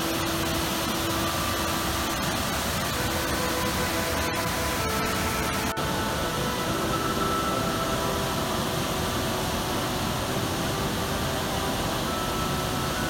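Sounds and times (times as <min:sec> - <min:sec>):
soft sustained music notes: 0:00.0 - 0:13.0
waterfall roaring: 0:00.0 - 0:13.0.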